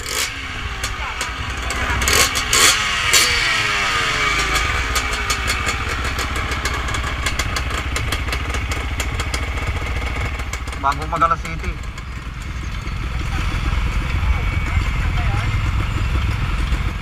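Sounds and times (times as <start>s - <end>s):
motorcycle engine revving: 0.0s - 17.0s
motorcycle engines idling: 0.0s - 17.0s.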